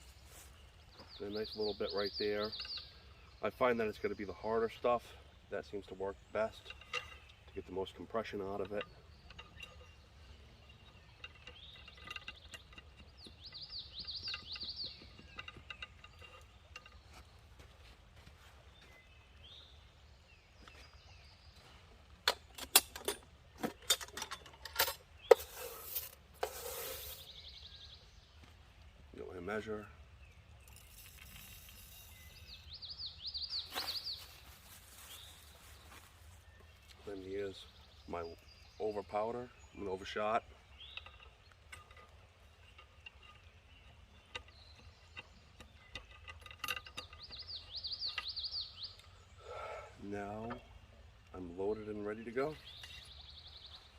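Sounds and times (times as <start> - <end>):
songbird chirping: 0.0 - 53.9.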